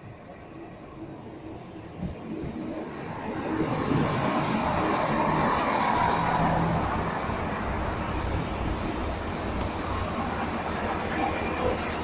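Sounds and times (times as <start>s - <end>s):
diesel train rumbling past: 0.0s - 12.0s.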